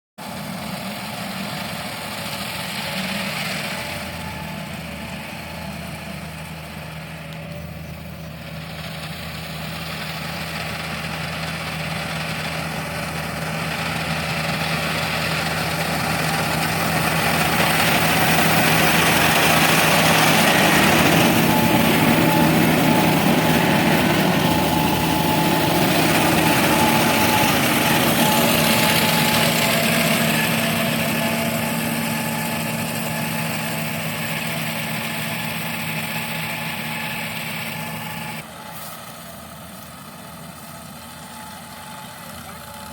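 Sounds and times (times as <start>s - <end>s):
diesel engine humming: 0.2s - 42.9s.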